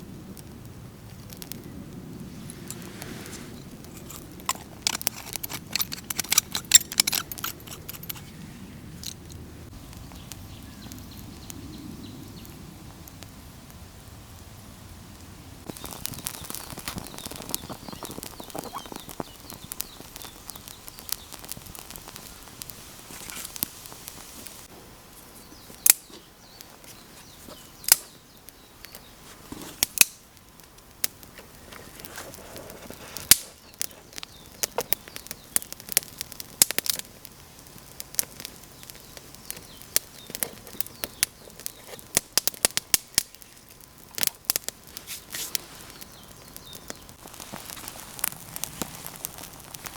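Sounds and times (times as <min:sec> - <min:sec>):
sharp fire pops: 0:00.0 - 0:13.4, 0:15.1 - 0:24.8, 0:25.5 - 0:49.9
campfire crackling: 0:00.0 - 0:49.9.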